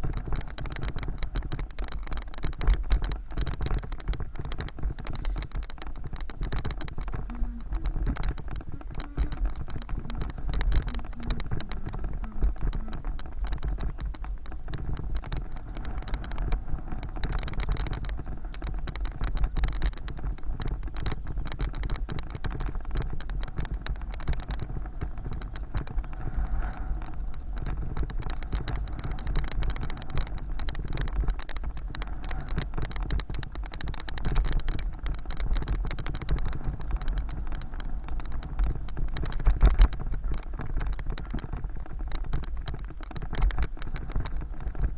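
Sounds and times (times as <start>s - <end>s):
bicycle rattling and clicking: 0.0s - 44.9s
wind rumble on microphone: 0.0s - 44.9s.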